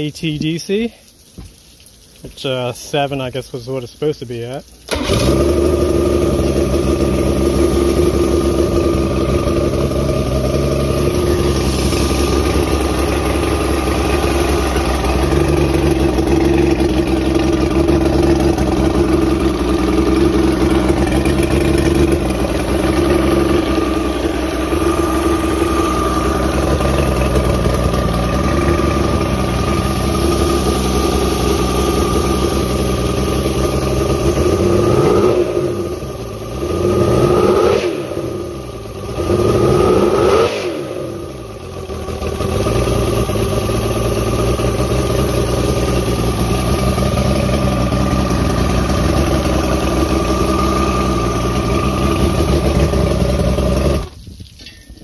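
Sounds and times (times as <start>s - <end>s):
outboard motor idling: 4.8s - 54.2s.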